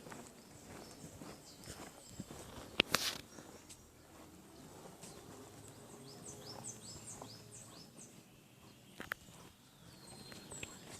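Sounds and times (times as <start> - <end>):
outdoor background noise: 0.0 - 10.9
small bird singing: 0.0 - 10.9.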